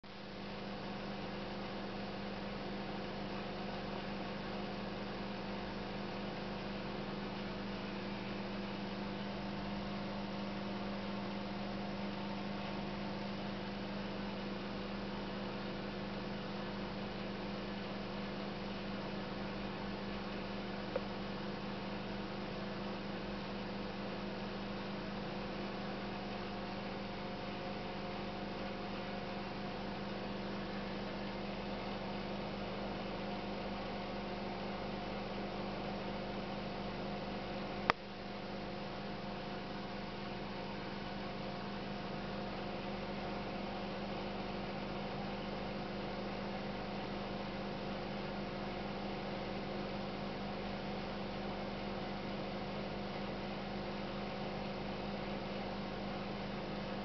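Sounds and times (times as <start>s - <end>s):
aquarium equipment humming: 0.1s - 57.0s.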